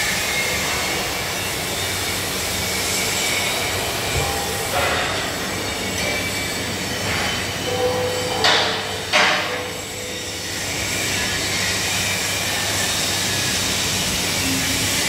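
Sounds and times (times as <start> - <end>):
workshop machinery noise: 0.0 - 15.0.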